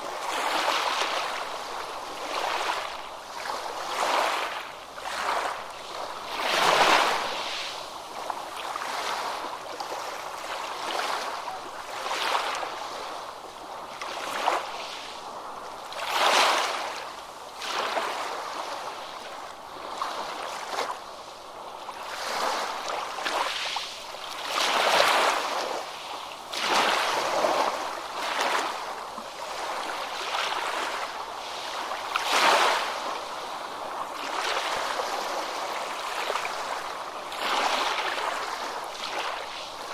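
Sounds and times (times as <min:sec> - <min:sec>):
ocean waves breaking: 0:00.0 - 0:21.0, 0:21.8 - 0:39.9.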